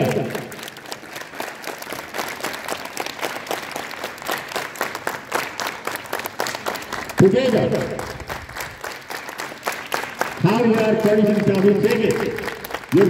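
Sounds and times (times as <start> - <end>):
children clapping: 0.0 - 13.0.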